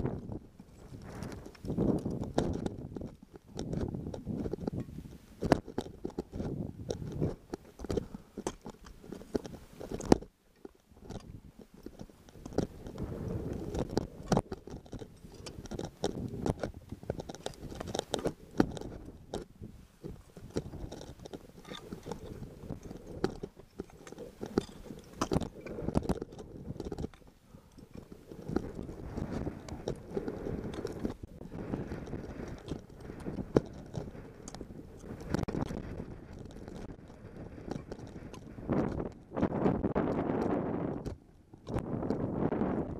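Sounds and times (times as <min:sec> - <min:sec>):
crampons scraping on rock: 0:00.0 - 0:42.7.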